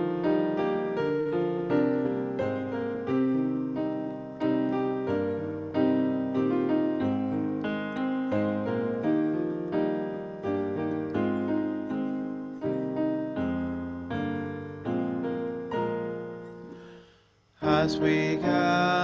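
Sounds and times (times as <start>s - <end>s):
piano playing slow hymn chords: 0.0s - 19.0s.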